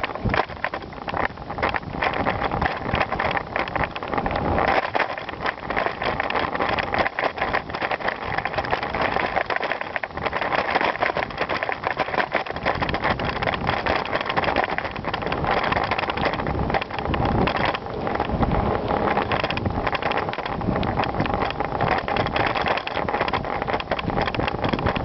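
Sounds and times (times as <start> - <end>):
bicycle tyres crunching gravel: 0.0 - 25.0
small rattles: 0.0 - 25.0
wind on microphone: 0.0 - 25.0.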